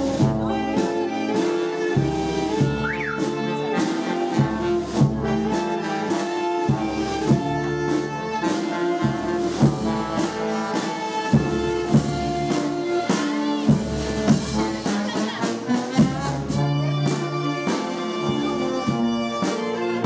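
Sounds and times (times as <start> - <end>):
brass band playing: 0.0 - 20.0
drum beats: 0.0 - 20.0.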